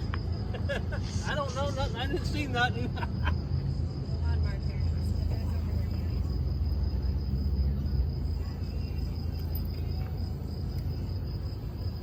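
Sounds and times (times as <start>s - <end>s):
crickets droning: 0.0s - 12.0s
road traffic rumble: 0.0s - 12.0s.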